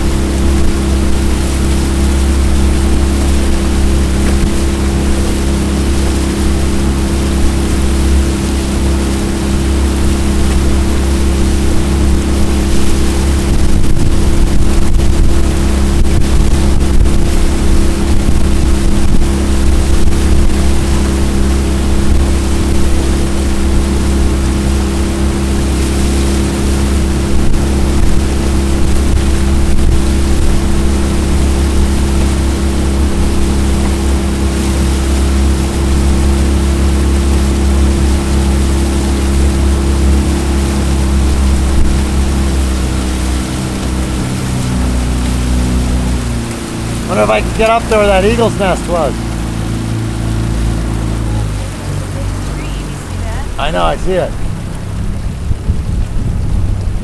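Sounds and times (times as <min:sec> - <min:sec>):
outboard motor droning: 0:00.0 - 0:57.0
water against boat hull: 0:00.0 - 0:57.0.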